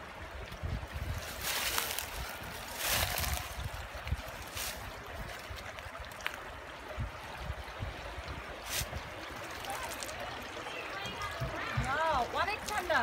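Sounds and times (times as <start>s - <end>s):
stream babbling over stones: 0.0s - 13.0s.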